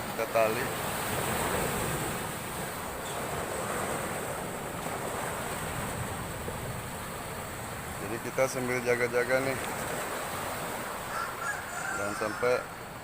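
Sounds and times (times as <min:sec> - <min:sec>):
surf breaking on beach: 0:00.0 - 0:12.7.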